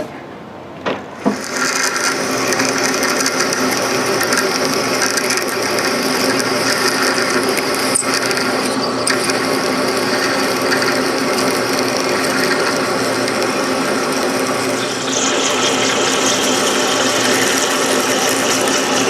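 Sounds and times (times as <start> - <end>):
metal lathe whirring: 1.1 - 19.0.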